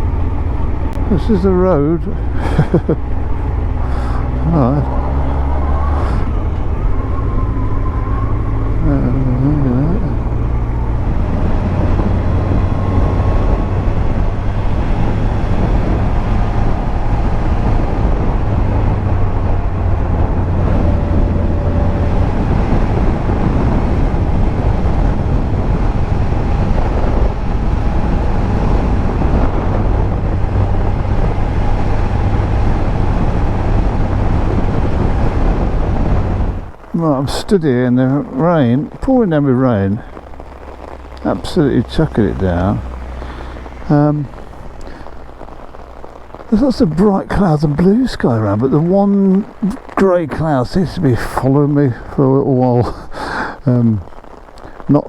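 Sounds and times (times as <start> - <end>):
motorcycle engine running: 0.0 - 48.0
wind rush on microphone: 0.0 - 55.0.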